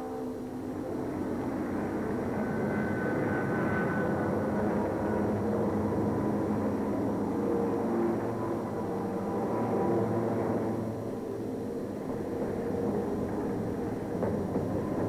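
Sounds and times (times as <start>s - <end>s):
locomotives rumbling past: 0.1s - 15.0s.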